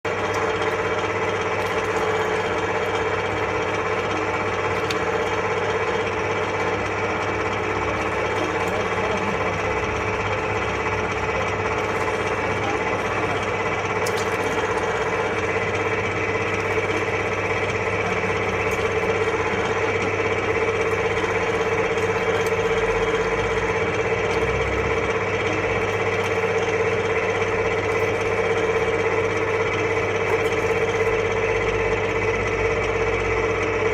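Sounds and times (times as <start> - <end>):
meat grinder humming: 0.0 - 33.9.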